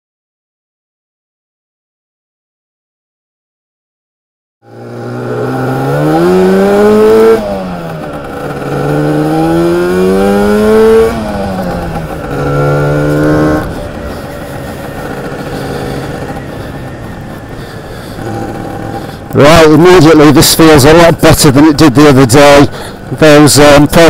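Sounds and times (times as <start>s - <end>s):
scooter engine accelerating: 4.6s - 24.0s.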